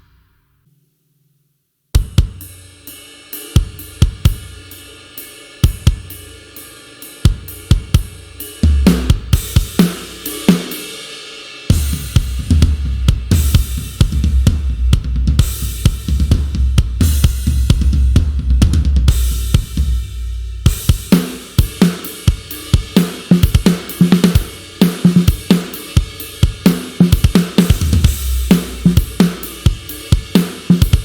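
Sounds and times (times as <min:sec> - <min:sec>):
fast kick drum pattern: 0:02.0 - 0:02.6, 0:03.5 - 0:04.8, 0:05.6 - 0:06.5, 0:07.2 - 0:10.8, 0:11.7 - 0:31.0
rock drum kit groove: 0:02.0 - 0:31.0
loud cymbals: 0:02.1 - 0:18.2, 0:19.1 - 0:31.0.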